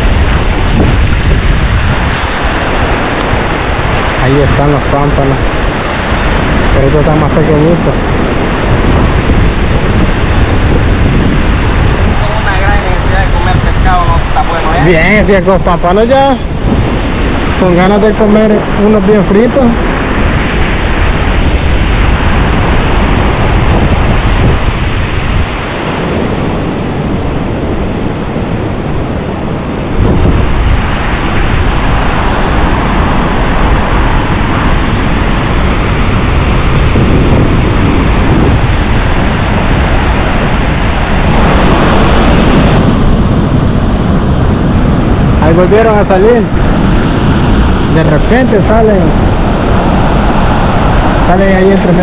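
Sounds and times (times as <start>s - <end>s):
surf breaking on beach: 0.0s - 52.0s
wind buffeting microphone: 0.0s - 52.0s.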